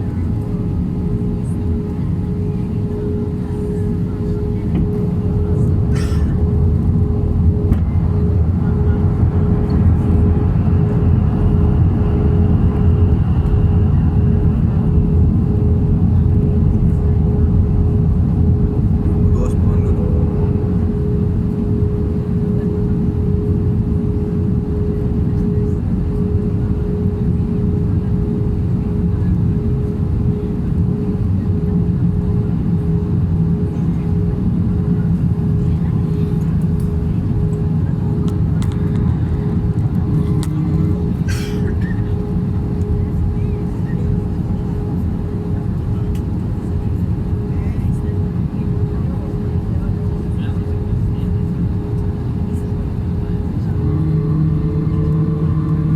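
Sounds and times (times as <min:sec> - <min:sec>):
airplane engine drone: 0:00.0 - 0:55.9.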